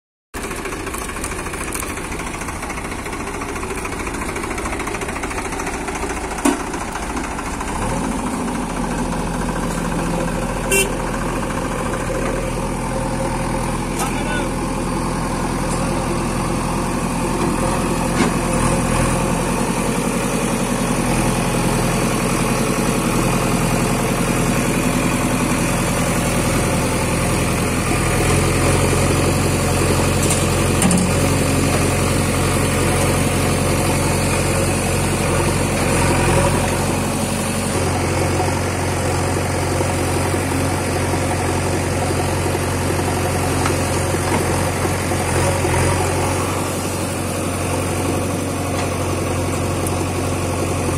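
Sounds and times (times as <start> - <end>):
backhoe diesel engine under load: 0.4 - 50.9
tractor diesel engine running: 0.4 - 50.9.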